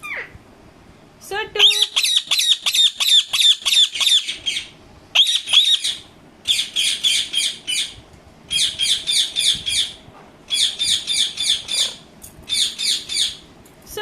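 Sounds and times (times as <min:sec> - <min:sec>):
parrot screeching: 0:01.6 - 0:13.4.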